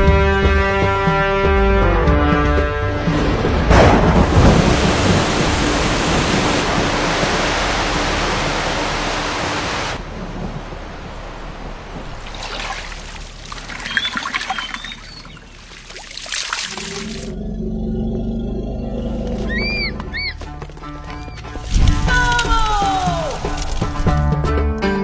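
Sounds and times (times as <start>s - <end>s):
rushing water roar: 3.0s - 24.4s.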